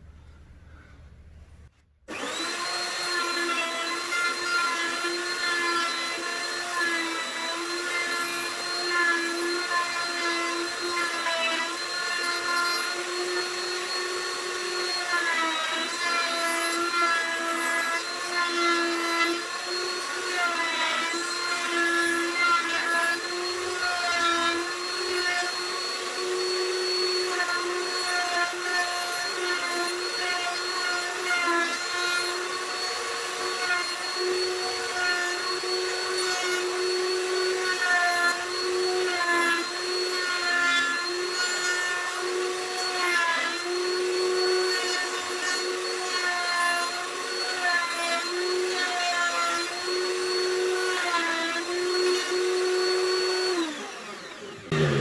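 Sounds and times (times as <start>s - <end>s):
electric router whining: 2.1s - 55.0s.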